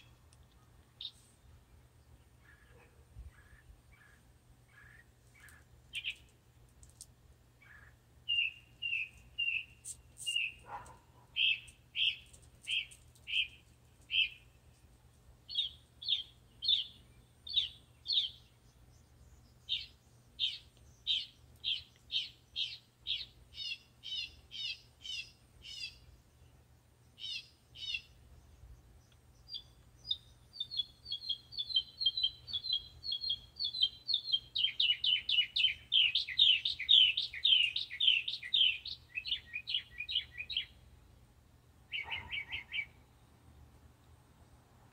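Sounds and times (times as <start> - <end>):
bird singing: 0.0 - 6.3, 7.6 - 14.6, 15.5 - 41.2, 41.9 - 43.4.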